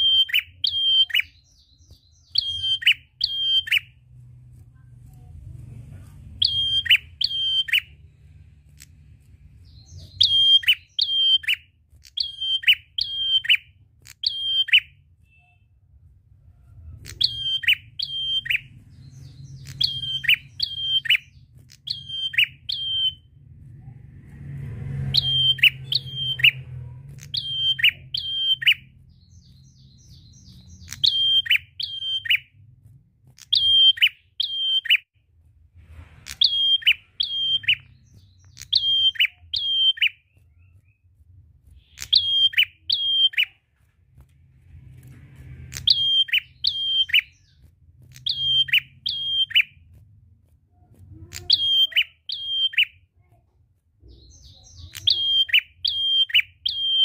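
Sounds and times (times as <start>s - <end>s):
songbird chirping: 0.0s - 35.1s, 36.0s - 57.0s.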